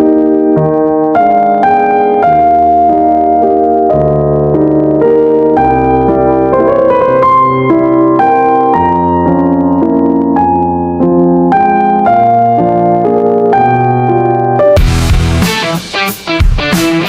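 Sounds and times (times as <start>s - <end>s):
piano chords and slow melody: 0.0s - 17.0s.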